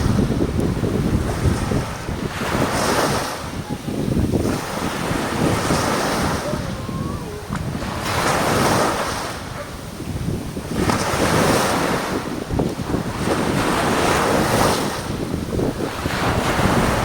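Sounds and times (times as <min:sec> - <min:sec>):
sea waves breaking: 0:00.0 - 0:17.0
wind buffeting microphone: 0:00.0 - 0:17.0.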